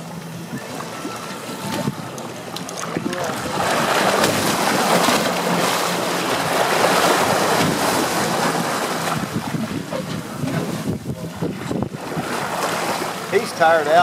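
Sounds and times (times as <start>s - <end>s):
faint boat motor hum: 0.0s - 14.0s
water splashing against boat hull: 0.0s - 14.0s.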